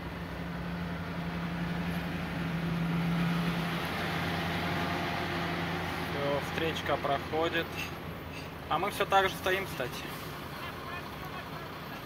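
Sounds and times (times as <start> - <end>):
truck diesel engine passing: 0.0 - 12.0.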